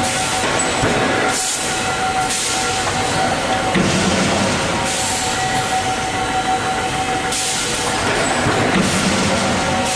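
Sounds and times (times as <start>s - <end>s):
machinery hum and whine: 0.0s - 9.9s.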